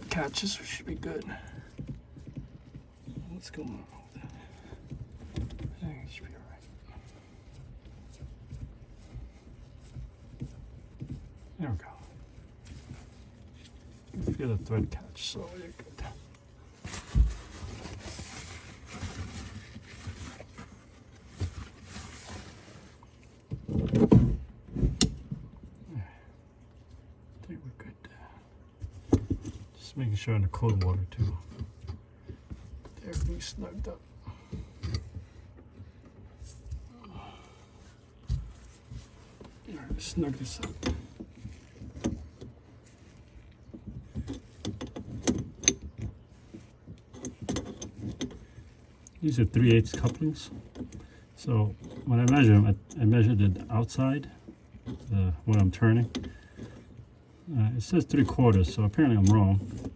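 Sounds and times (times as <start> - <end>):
handling rustling: 0.0 - 27.4, 28.5 - 59.9.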